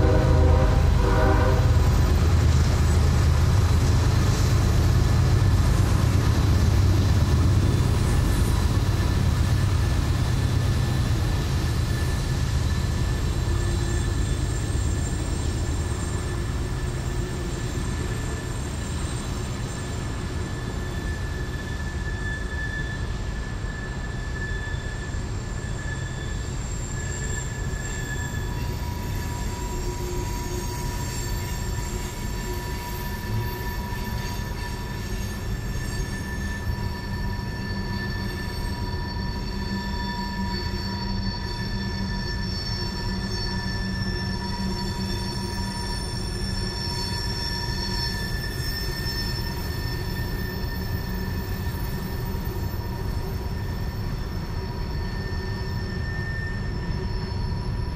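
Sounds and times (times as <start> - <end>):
low train rumble: 0.0 - 57.9
wheel flanges squealing: 0.0 - 57.9.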